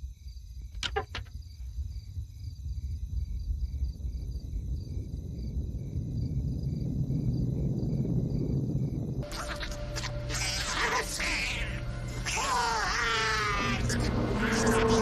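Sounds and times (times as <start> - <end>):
crickets chirping: 0.0 - 15.0
low rumble: 1.7 - 15.0.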